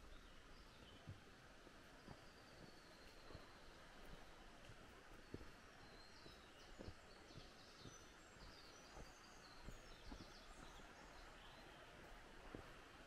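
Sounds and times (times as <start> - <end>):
low steady hiss: 0.0 - 13.0
small birds chirping: 0.0 - 13.0.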